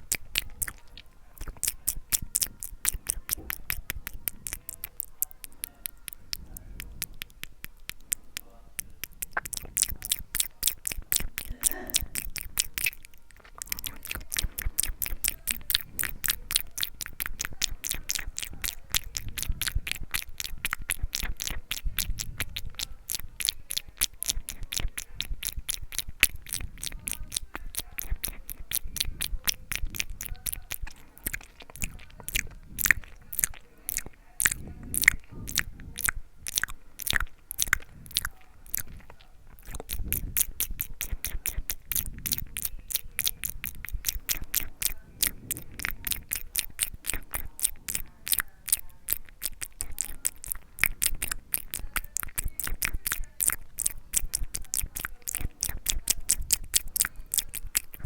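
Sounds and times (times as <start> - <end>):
wet mouth clicks and smacks: 0.0 - 58.0.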